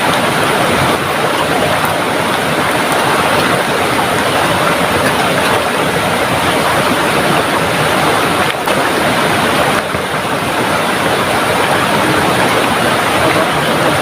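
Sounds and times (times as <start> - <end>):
heavy rain pouring: 0.0 - 14.0
river rushing: 0.0 - 14.0.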